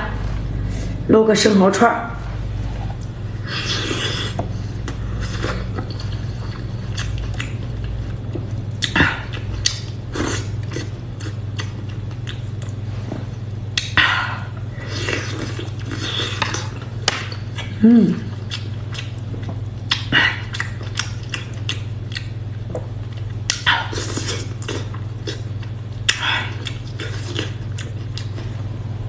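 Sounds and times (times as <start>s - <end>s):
steady low hum: 0.0s - 29.0s
chewing and biting: 3.0s - 12.8s, 14.9s - 28.6s.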